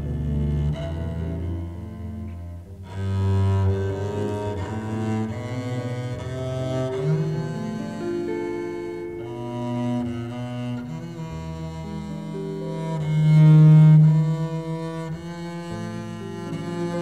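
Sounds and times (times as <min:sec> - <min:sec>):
bowed double bass melody: 0:00.0 - 0:17.0.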